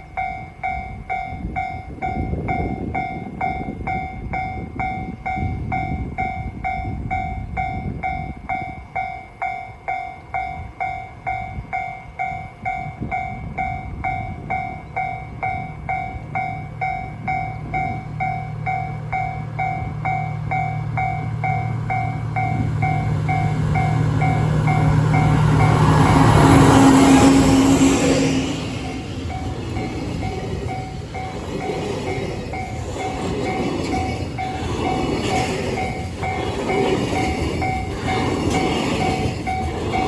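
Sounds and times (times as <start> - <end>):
train engine drone: 0.0 - 40.0.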